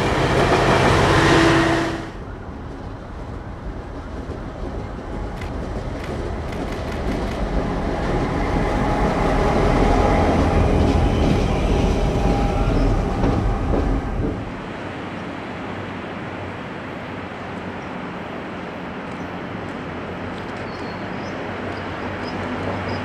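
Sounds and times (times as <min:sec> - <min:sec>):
diesel locomotive engines rumbling: 0:00.0 - 0:23.0.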